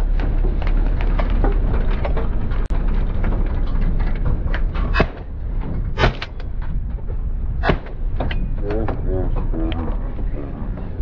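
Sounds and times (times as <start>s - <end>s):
body knocks and rattles: 0.0s - 11.0s
vehicle low rumble: 0.0s - 11.0s.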